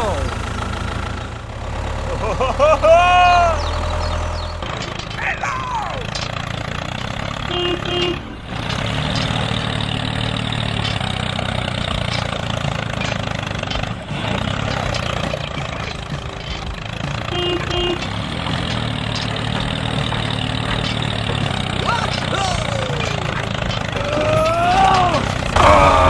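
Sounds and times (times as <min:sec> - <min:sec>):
toy tractor engine running: 0:00.0 - 0:26.0.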